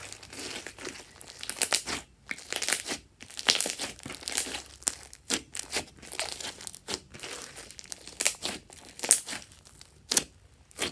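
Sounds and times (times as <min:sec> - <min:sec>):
slime squishing with crackles: 0:00.0 - 0:10.9.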